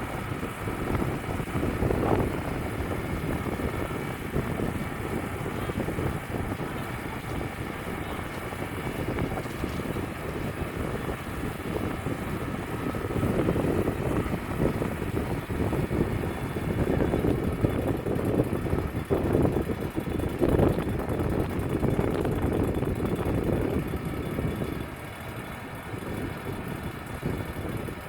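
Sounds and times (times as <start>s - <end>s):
band sawmill running: 0.0s - 28.0s
wind buffeting microphone: 0.0s - 28.0s.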